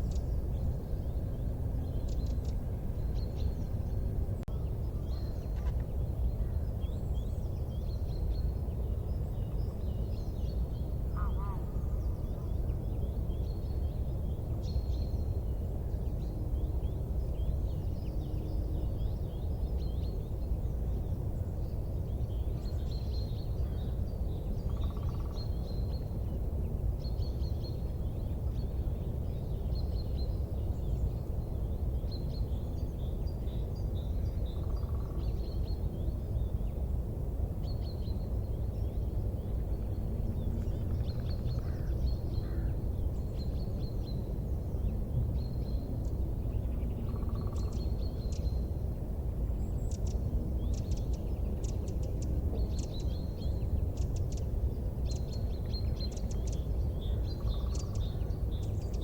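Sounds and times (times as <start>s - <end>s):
small birds chirping: 0.0s - 37.0s, 37.6s - 59.0s
low rumbling background noise: 0.0s - 59.0s.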